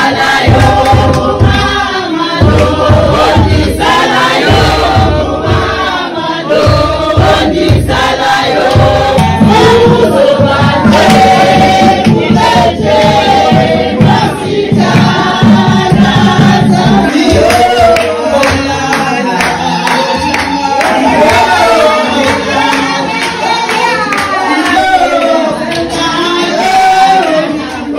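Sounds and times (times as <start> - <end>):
crowd singing together: 0.0 - 27.9
low rhythmic beat: 0.0 - 27.9.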